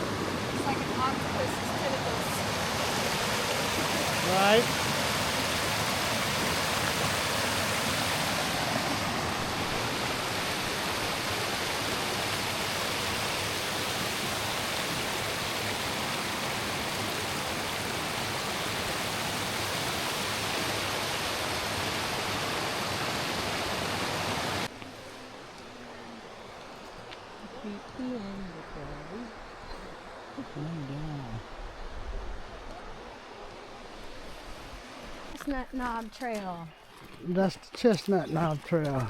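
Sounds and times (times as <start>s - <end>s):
flowing stream water: 0.0s - 39.0s.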